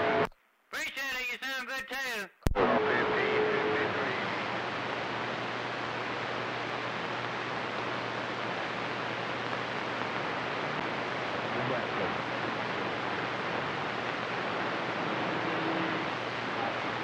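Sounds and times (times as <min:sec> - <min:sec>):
faint radio tone: 0:00.0 - 0:17.0
radio static hiss: 0:00.0 - 0:17.0.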